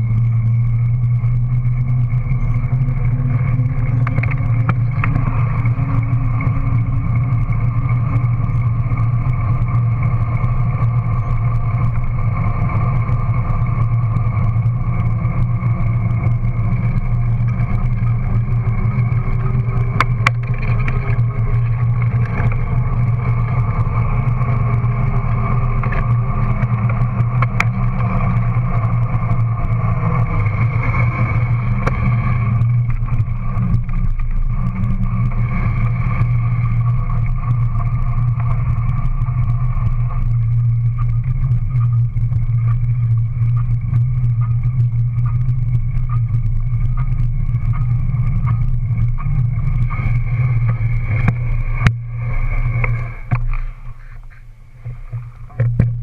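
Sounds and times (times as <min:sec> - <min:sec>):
bike tyre rolling on asphalt: 0:00.0 - 0:56.0.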